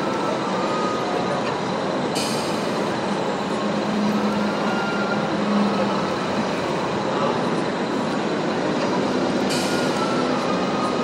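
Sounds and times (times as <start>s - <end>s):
busy hall crowd noise: 0.0s - 11.0s.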